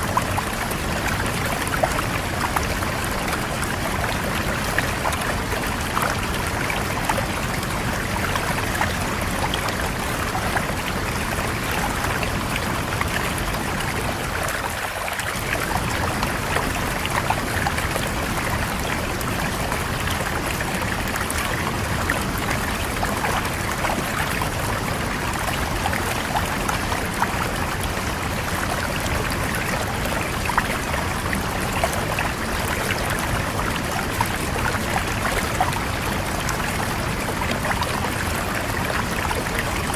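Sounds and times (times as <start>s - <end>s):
river water rushing over rocks: 0.0s - 39.9s
small splashes and trickles: 0.0s - 39.9s.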